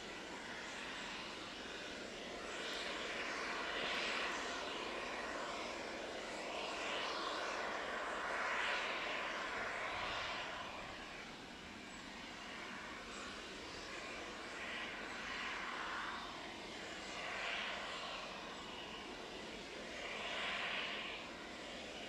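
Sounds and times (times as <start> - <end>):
aircraft engine hiss: 0.0 - 22.0.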